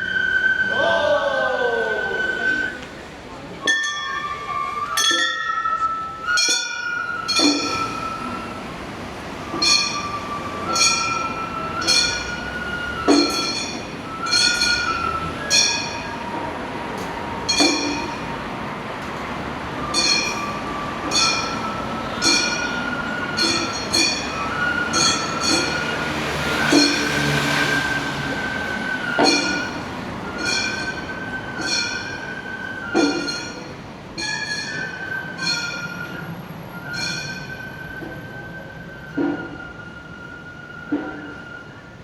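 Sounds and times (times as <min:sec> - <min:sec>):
transverse flute holding long notes: 0:00.0 - 0:42.0.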